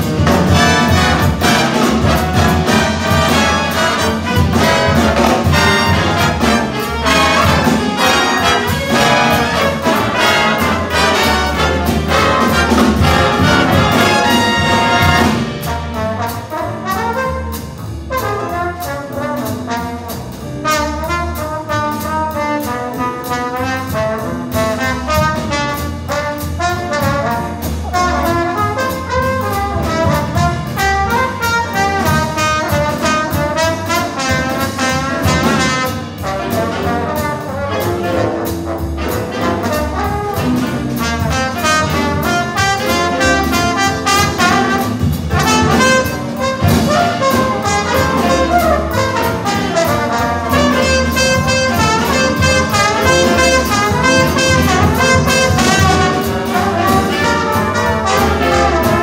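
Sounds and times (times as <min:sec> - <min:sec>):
jazz big band playing: 0:00.0 - 0:59.0
trombones: 0:00.0 - 0:59.0.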